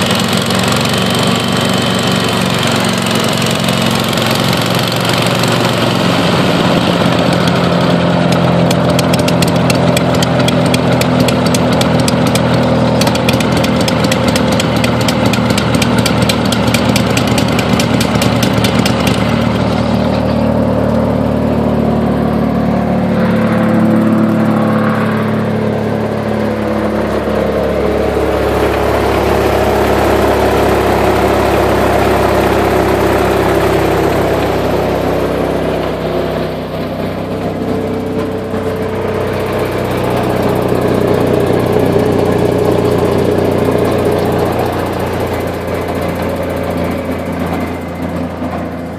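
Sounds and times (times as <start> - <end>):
wood chipper engine running: 0.0 - 48.9.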